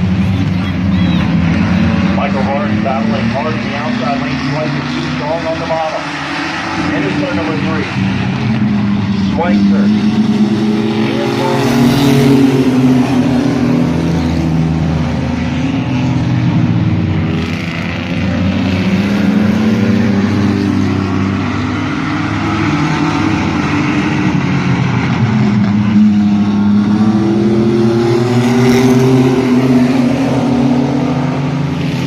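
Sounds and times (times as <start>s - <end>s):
racing truck engines: 0.0s - 32.0s.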